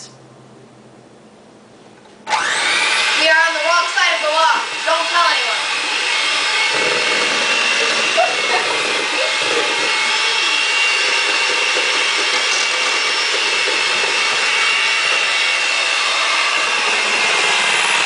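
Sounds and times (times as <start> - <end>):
electric mixer whining: 2.2 - 18.0.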